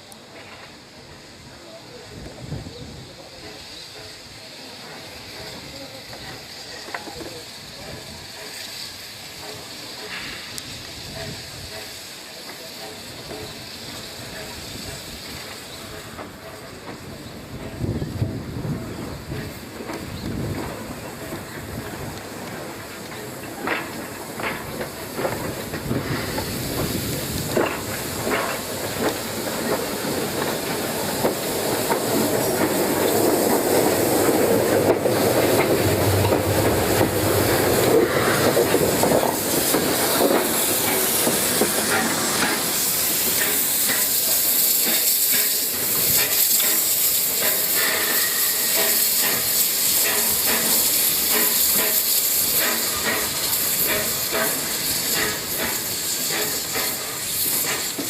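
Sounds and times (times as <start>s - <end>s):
steam hissing: 0.0s - 58.0s
train clicks and knocks: 0.0s - 58.0s
train rumbling: 0.0s - 58.0s.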